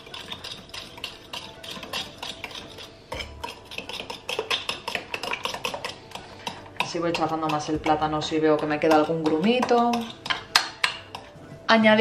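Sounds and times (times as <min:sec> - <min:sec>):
wet stirring of batter: 0:00.0 - 0:11.5
fork clicking against glass bowl: 0:00.1 - 0:07.7, 0:08.9 - 0:11.3.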